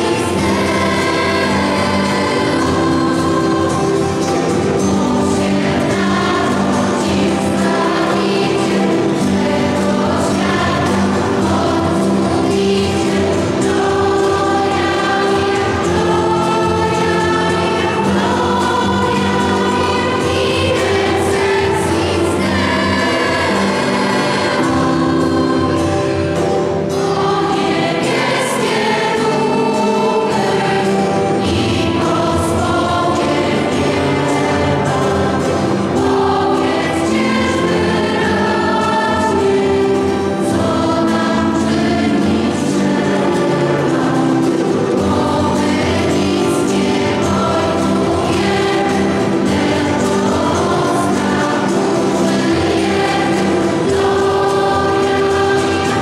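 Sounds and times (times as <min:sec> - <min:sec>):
choir singing a carol: 0:00.0 - 0:56.0.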